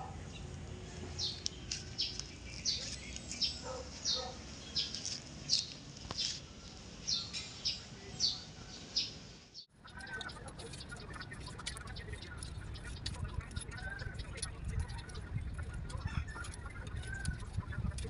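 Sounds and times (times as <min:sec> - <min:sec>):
small bird chirping: 0:00.3 - 0:18.0.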